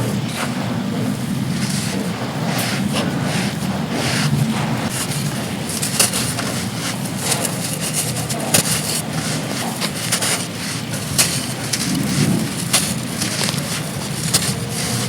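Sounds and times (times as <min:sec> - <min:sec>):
heavy wind: 0:00.0 - 0:15.0
sand crumbling and crunching: 0:00.0 - 0:15.0.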